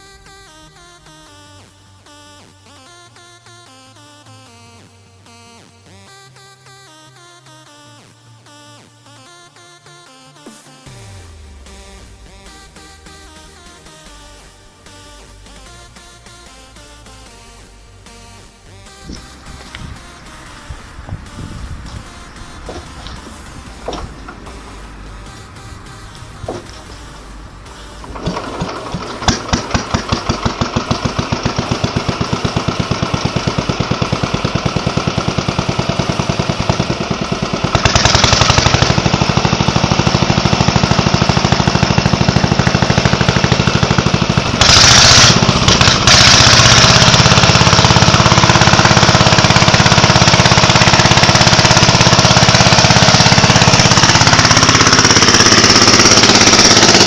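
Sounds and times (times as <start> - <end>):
small engine running: 10.8 - 57.0.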